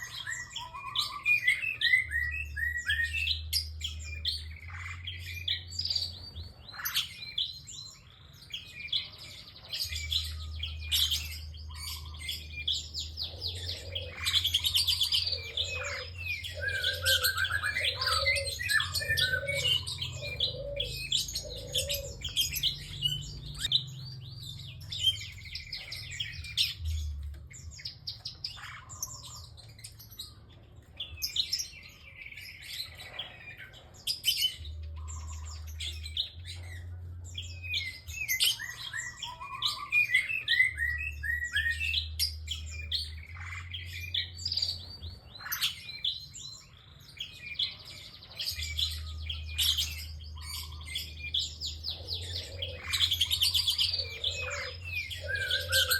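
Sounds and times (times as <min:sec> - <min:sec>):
bird chirping and trilling: 0:00.0 - 0:55.9
lower evenly spaced bird notes: 0:00.0 - 0:55.9.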